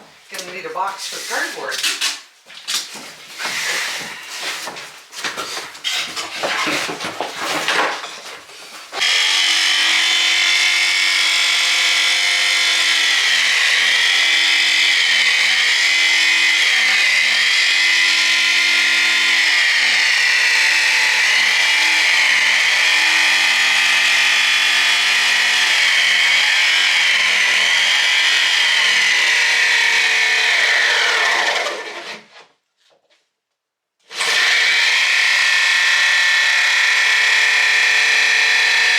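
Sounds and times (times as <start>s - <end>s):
jigsaw cutting wood: 3.4s - 4.8s, 5.8s - 8.0s, 9.0s - 32.3s, 34.1s - 38.9s.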